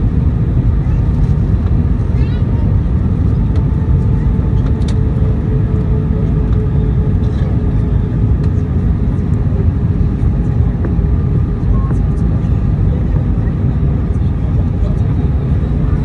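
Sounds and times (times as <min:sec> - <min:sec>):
jet engines and airflow rumble: 0:00.0 - 0:16.0.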